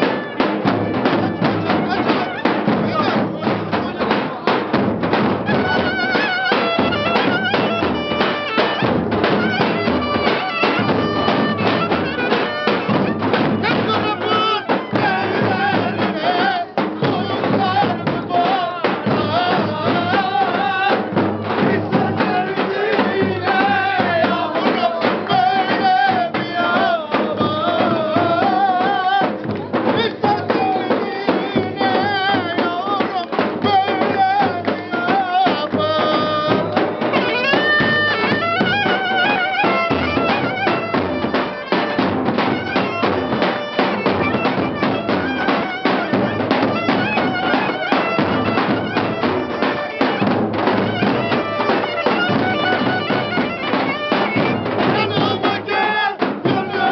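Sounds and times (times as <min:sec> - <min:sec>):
drum beats: 0:00.0 - 0:56.9
reedy wind instrument melody: 0:00.0 - 0:56.9.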